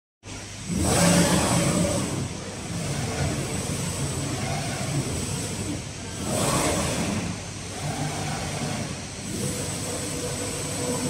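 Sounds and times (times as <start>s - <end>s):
machine gantry running: 0.6s - 11.0s.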